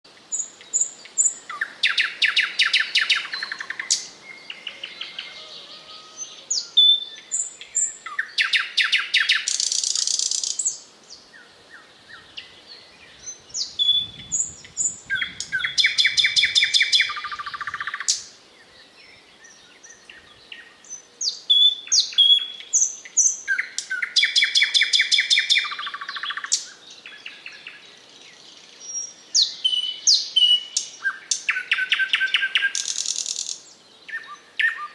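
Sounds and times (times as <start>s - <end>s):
nightingale singing: 0.1s - 34.9s.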